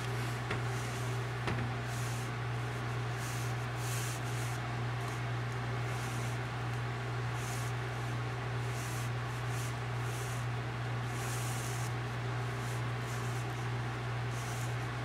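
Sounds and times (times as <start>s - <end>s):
constant background hiss: 0.0s - 15.0s
steady low hum: 0.0s - 15.0s.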